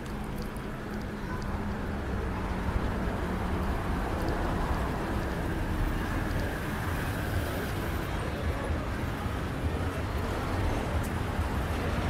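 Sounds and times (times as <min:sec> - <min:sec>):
passing vehicles rumbling: 0:00.0 - 0:12.0.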